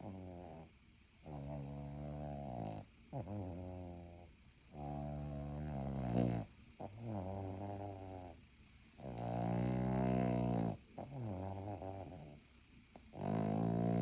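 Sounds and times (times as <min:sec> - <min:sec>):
dog snoring: 0:00.0 - 0:14.0.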